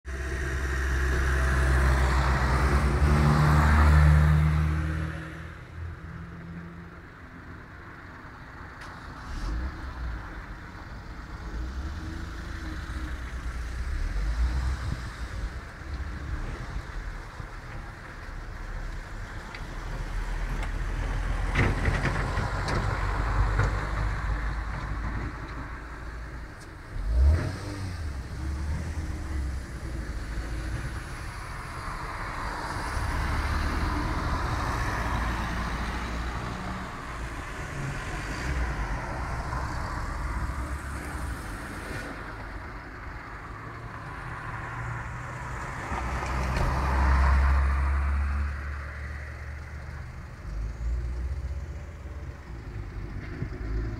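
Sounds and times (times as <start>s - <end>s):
cars and truck driving by: 0.1s - 53.9s.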